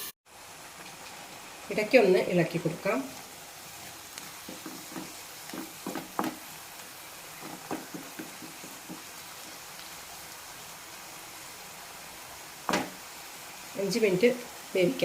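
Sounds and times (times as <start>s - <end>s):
food sizzling: 0.0s - 15.0s.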